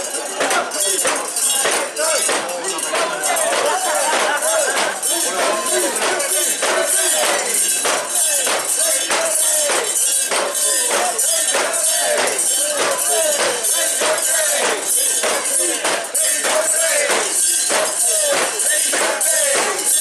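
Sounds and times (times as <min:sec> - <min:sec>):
crowd chanting in rhythm: 0:00.0 - 0:20.0.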